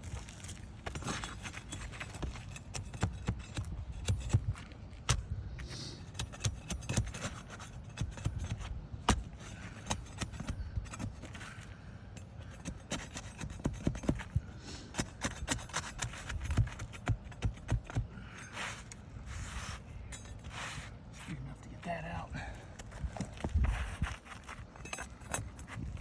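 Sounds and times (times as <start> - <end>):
shingles scraping and rubbing: 0.0 - 21.6, 22.8 - 26.0.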